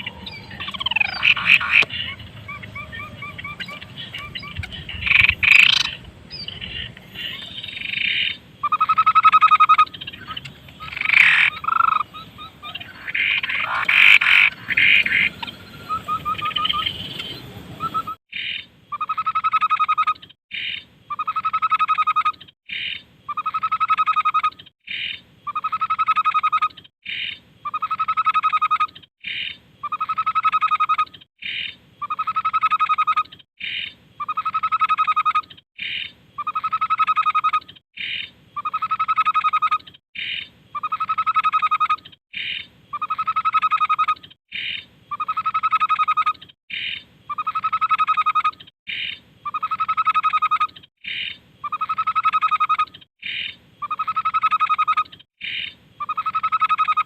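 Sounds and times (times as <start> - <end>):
babbler bird call with trill: 0.0 - 57.0.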